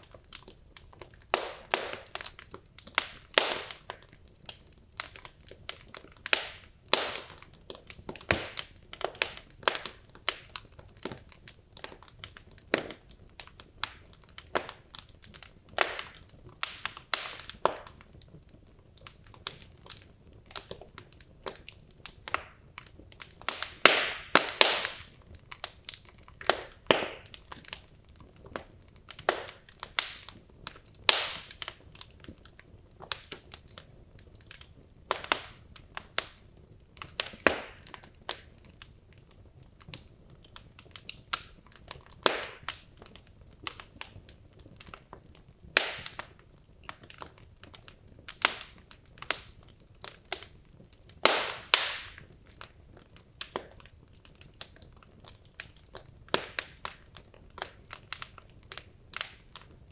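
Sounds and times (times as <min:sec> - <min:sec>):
logs crackling in a fireplace: 0:00.0 - 0:59.9.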